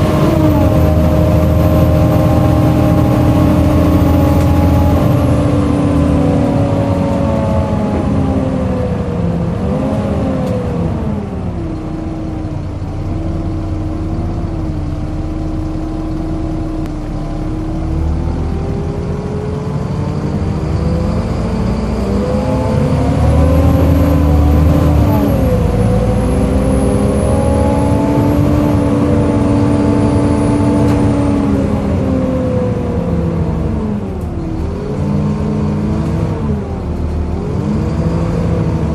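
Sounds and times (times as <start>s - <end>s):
bus engine running: 0.0s - 38.9s.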